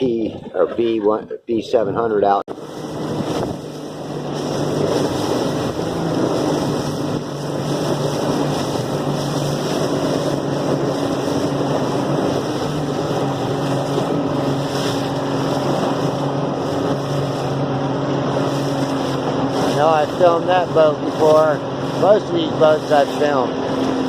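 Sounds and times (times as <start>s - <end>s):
wind buffeting microphone: 0.0s - 24.0s
motorboat engine running: 1.8s - 24.0s.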